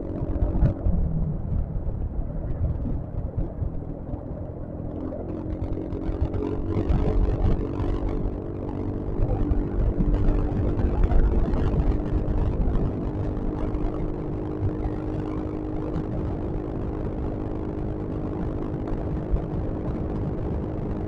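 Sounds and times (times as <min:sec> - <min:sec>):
road rumble: 0:00.0 - 0:21.0
wind noise on microphone: 0:00.0 - 0:21.0.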